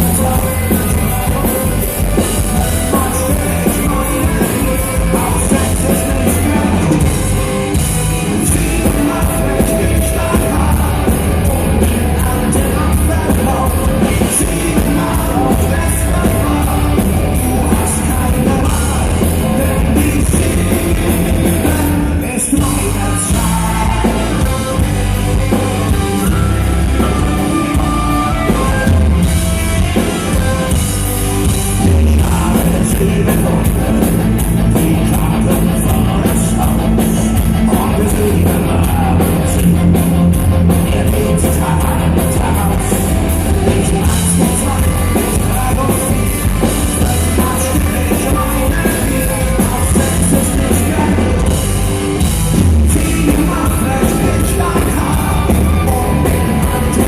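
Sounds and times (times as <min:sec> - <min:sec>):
drum kit: 0:00.0 - 0:57.0
metal band playing live: 0:00.0 - 0:57.0
person singing: 0:00.0 - 0:57.0.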